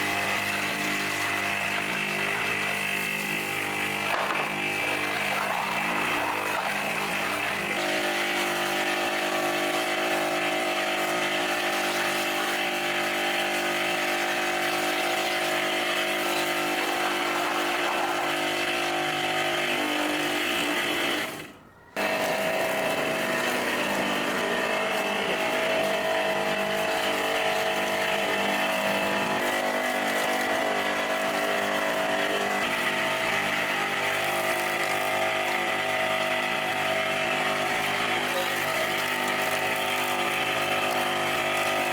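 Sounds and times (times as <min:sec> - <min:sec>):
small power tool motor running: 0:00.0 - 0:41.9.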